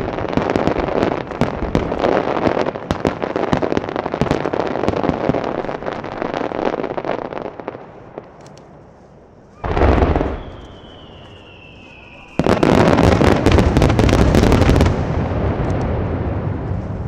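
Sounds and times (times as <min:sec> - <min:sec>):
fireworks bangs and crackling pops: 0:00.0 - 0:08.9, 0:09.6 - 0:17.0.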